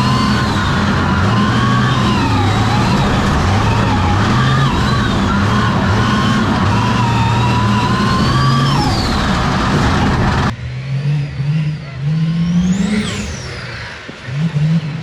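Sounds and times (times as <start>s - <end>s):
high engine whine: 0.0s - 15.0s
monster truck engine revving: 0.0s - 15.0s.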